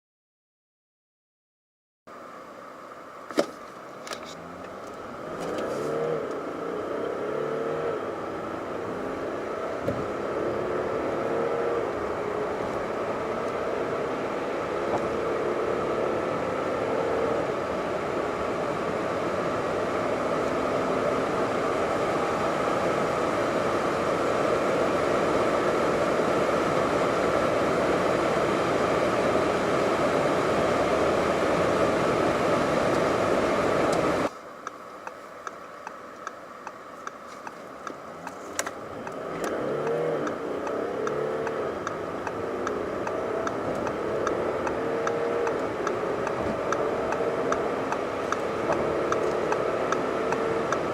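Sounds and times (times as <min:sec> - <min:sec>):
road and wind noise: 0:02.1 - 0:50.9
car engine accelerating hard: 0:04.2 - 0:34.3, 0:37.7 - 0:50.9.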